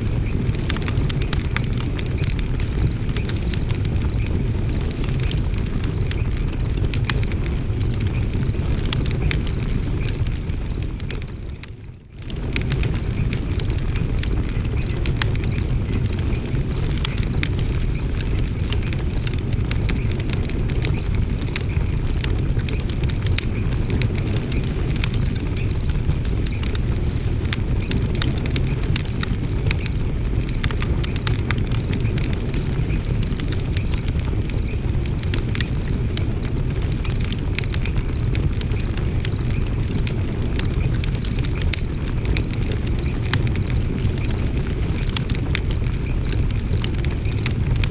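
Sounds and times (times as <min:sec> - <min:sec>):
low rumble of flames: 0:00.0 - 0:47.9
wood fire crackling and popping: 0:00.0 - 0:47.9.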